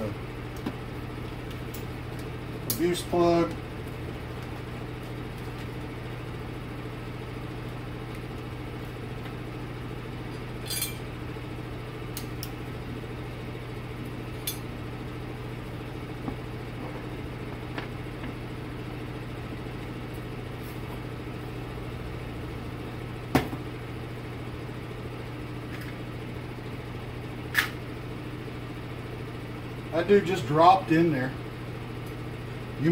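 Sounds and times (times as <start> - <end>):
low mechanical hum: 0.0 - 32.9.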